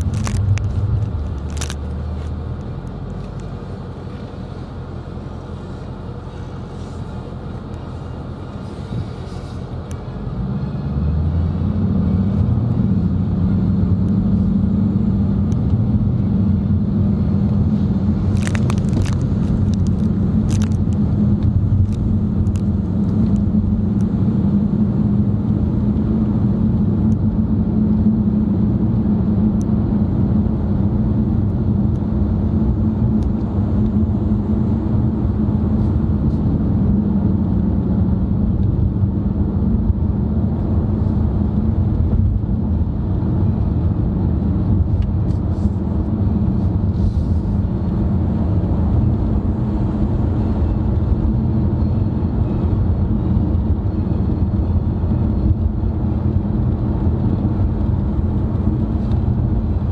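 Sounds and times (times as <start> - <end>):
car cabin road and engine drone: 0.0 - 59.9.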